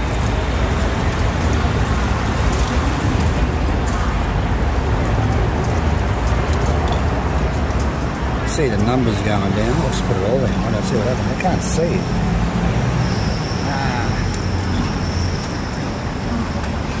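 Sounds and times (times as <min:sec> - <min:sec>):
road traffic roar: 0:00.0 - 0:17.0.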